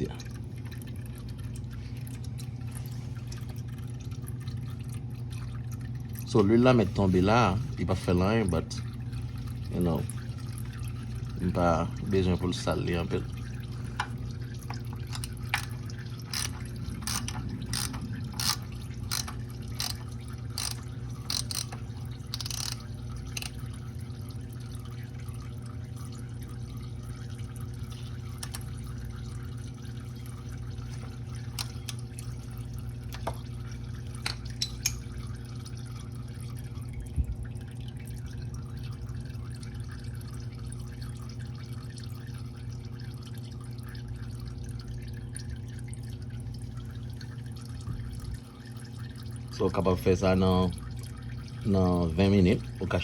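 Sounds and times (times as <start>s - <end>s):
oil dripping into a pan: 8.2s - 51.5s.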